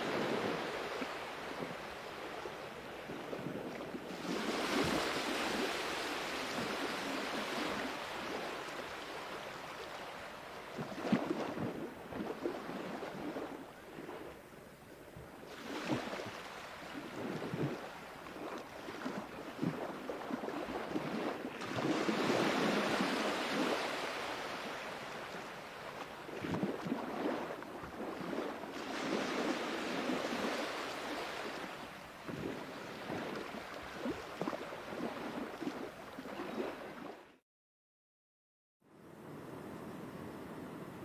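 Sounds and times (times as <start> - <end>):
sea waves breaking: 0.0 - 14.4, 15.4 - 37.3.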